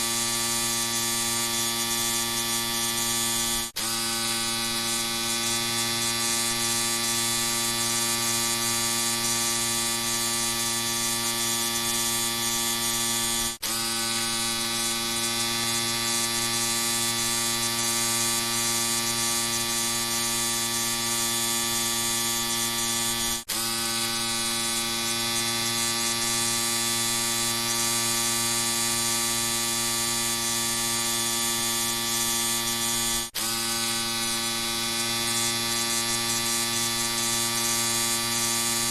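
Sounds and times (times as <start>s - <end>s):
electric shaver buzzing: 0.0s - 38.9s.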